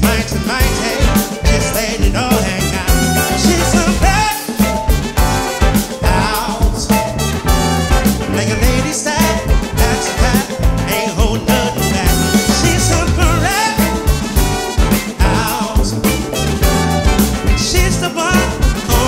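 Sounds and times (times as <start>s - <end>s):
live funk band playing: 0.0s - 19.0s.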